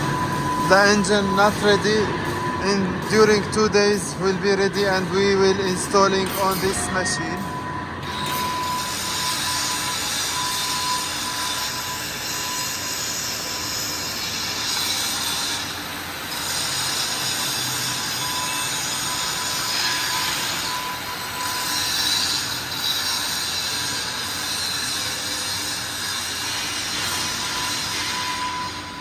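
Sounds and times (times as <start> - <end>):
high metallic screech: 0.0 - 29.0
industrial workshop noise: 0.0 - 29.0.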